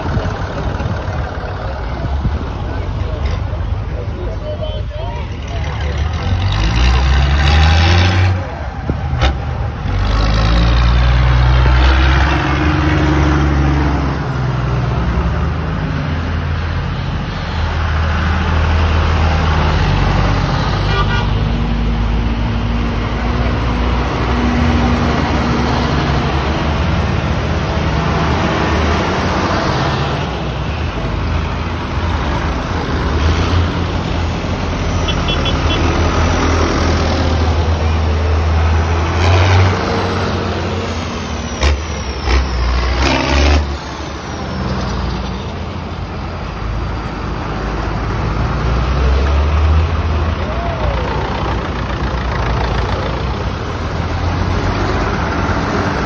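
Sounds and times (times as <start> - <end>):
diesel tractor engines passing: 0.0 - 56.0.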